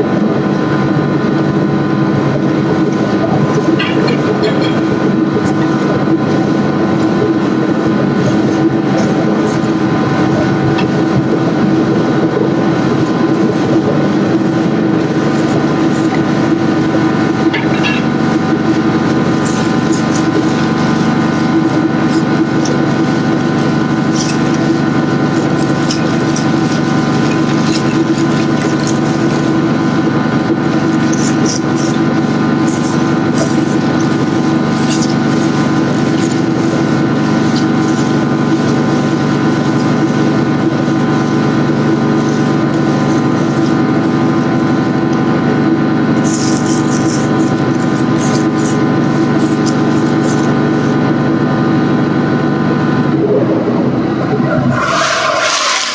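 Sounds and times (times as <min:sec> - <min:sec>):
machine motor running: 0:00.0 - 0:55.9.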